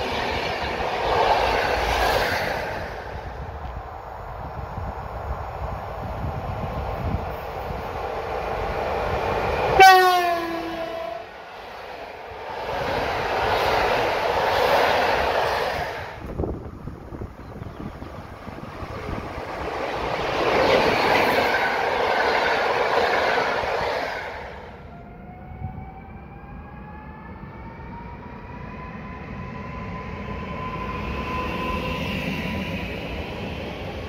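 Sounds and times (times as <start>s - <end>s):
train rumbling past: 0.0s - 34.0s.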